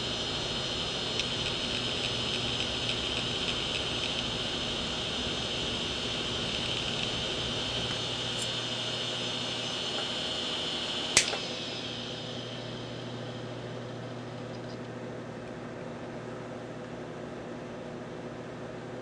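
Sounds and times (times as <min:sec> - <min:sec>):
hard disk whining: 0:00.0 - 0:16.2.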